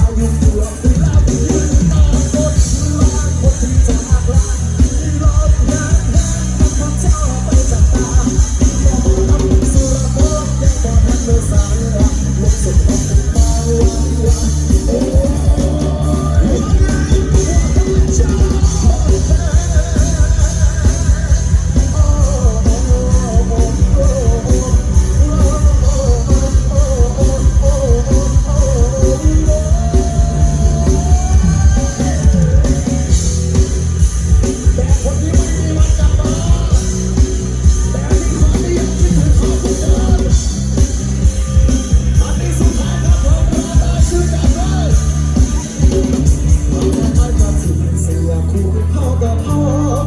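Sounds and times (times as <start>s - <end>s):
live rock band music: 0.0s - 50.0s.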